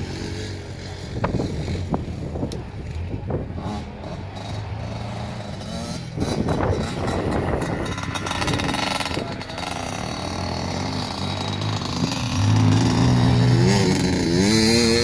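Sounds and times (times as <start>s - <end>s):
truck engine running hard: 0.0s - 15.0s.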